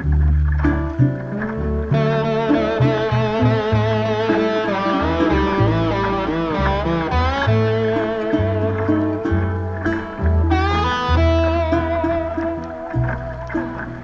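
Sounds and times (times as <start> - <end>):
bass line: 0.0 - 14.0
guitar melody: 0.0 - 14.0.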